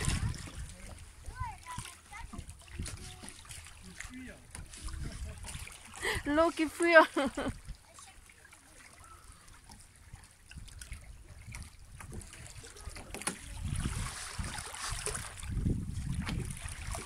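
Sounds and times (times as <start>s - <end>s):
wind buffeting microphone: 0.0s - 3.6s, 4.5s - 7.8s, 10.0s - 17.0s.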